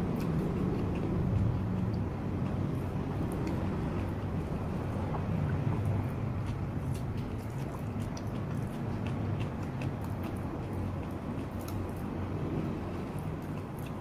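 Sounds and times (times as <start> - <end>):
chewing: 0.0 - 14.0.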